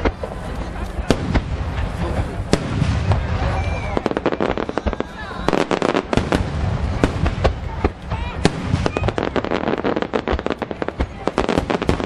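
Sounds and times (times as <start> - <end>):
low rumble of booms: 1.1 - 12.0.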